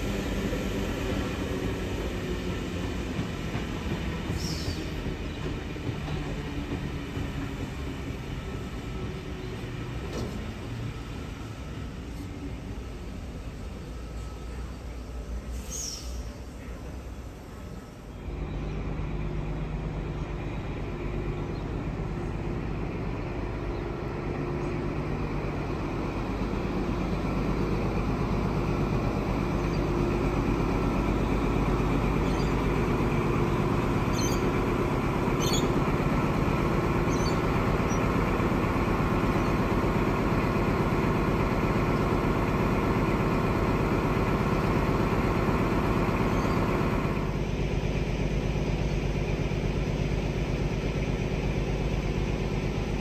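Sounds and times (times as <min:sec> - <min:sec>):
diesel train engine rumbling: 0:00.0 - 0:53.0.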